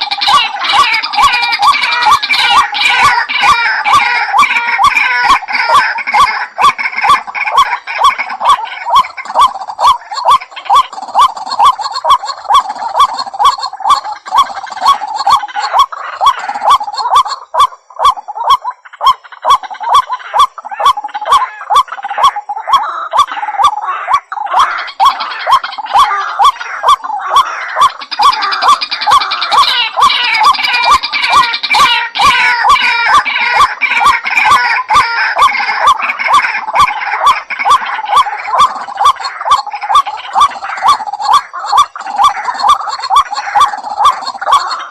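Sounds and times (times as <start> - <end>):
bird calling sharp notes: 0.0 - 44.9
chattering gurgling bird calls: 0.0 - 44.9.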